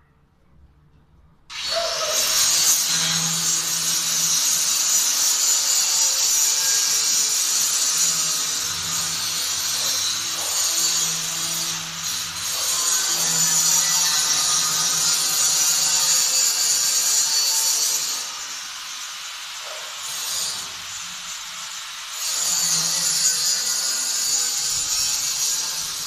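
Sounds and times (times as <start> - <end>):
angle grinder grinding metal: 1.5 - 26.0.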